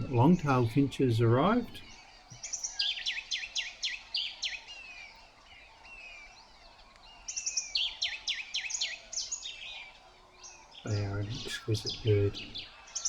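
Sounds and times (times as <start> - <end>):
faint natural ambience: 0.0 - 13.0
songbird whistling: 0.0 - 13.0.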